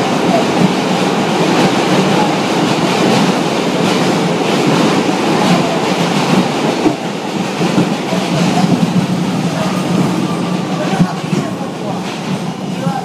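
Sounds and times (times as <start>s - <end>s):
subway car rumble: 0.0s - 13.0s
wheels clattering over rails: 0.0s - 13.0s.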